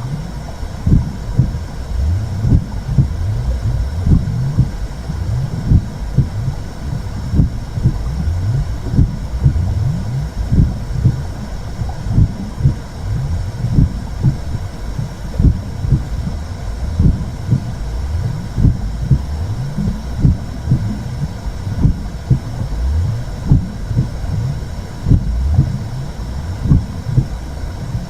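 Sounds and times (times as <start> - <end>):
muffled pulsing womb whoosh: 0.0 - 28.0.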